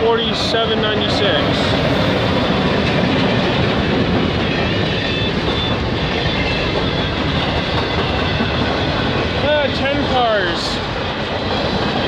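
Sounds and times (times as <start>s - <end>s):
diesel locomotive passing: 0.0s - 12.0s
freight cars rumbling over rails: 0.0s - 12.0s.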